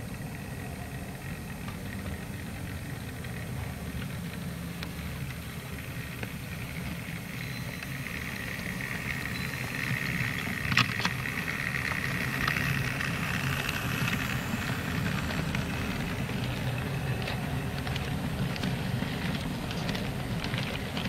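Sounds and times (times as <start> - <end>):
model train wheels rumbling: 0.0 - 21.0
wheels clicking over rail joint: 0.0 - 21.0.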